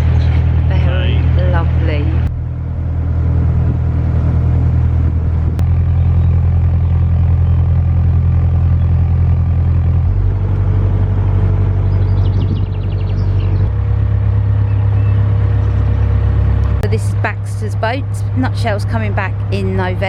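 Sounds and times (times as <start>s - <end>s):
diesel boat engine throbbing: 0.0s - 20.0s.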